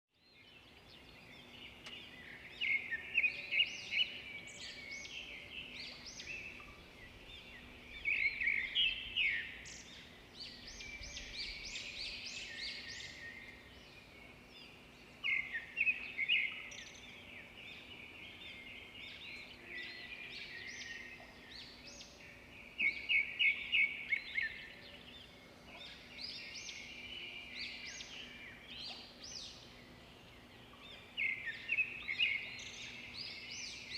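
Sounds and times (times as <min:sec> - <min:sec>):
songbirds chirping and singing: 0:00.2 - 0:33.9.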